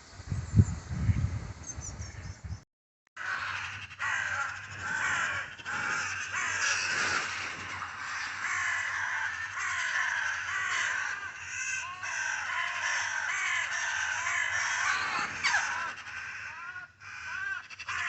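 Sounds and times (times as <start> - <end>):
flock of birds calling: 1.7 - 2.6, 3.2 - 18.0.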